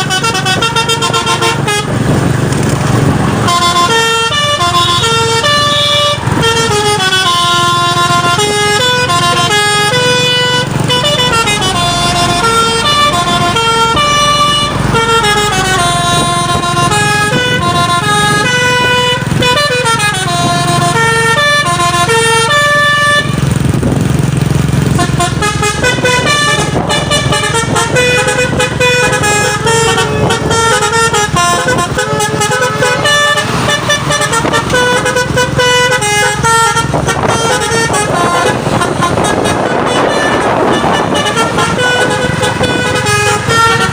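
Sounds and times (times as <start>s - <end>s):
truck air horn playing a tune: 0.0s - 43.9s.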